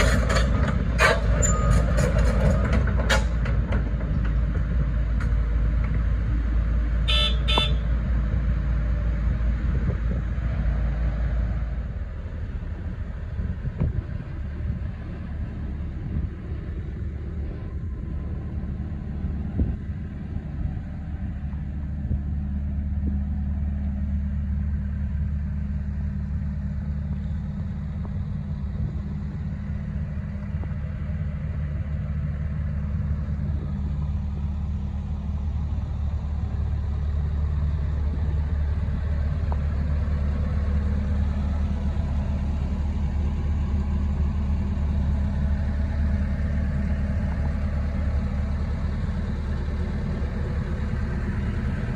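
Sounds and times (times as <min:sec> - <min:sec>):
excavator diesel engine idling: 0:00.0 - 0:51.9.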